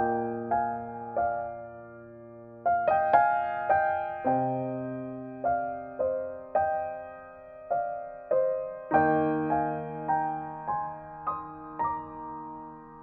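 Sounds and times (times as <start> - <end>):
slow solo piano music: 0.0 - 13.0.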